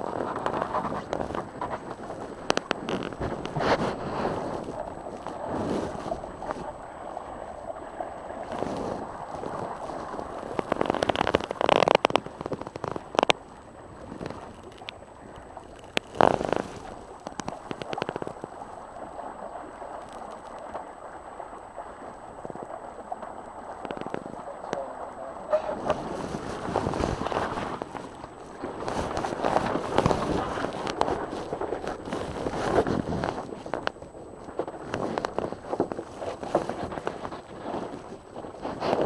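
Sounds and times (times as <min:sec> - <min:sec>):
water sloshing against boat hull: 0:00.0 - 0:39.0
water splashes: 0:00.0 - 0:39.0
wind rumbling on microphone: 0:00.0 - 0:39.0.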